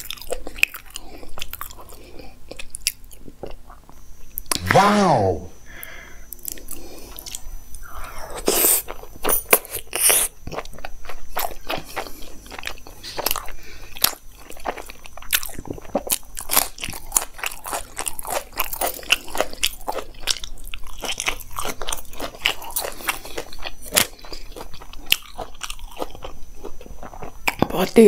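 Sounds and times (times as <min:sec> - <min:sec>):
person chewing wetly: 0:00.0 - 0:04.6, 0:06.4 - 0:27.8.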